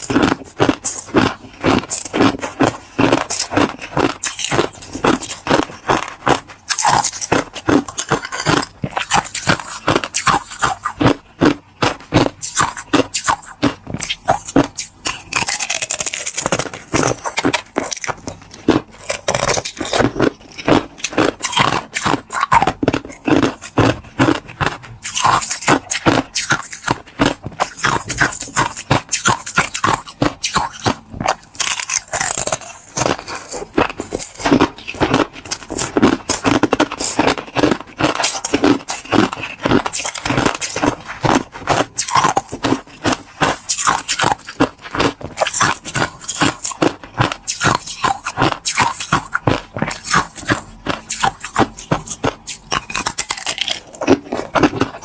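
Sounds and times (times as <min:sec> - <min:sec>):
ice being chewed: 0:00.0 - 0:55.0
wet mouth sounds: 0:00.0 - 0:55.0.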